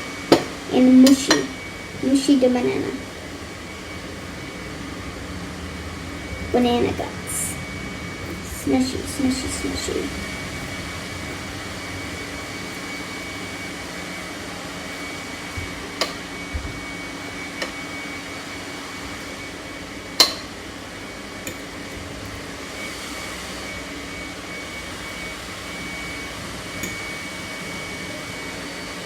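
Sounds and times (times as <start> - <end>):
kitchen hum: 0.0 - 29.0
thin high whine: 0.0 - 29.0.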